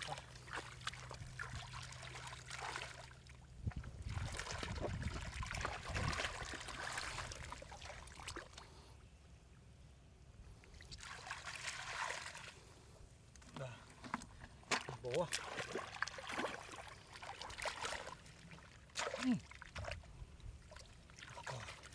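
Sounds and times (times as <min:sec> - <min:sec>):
shallow water splashing: 0:00.0 - 0:08.8, 0:10.6 - 0:12.7, 0:13.9 - 0:21.9.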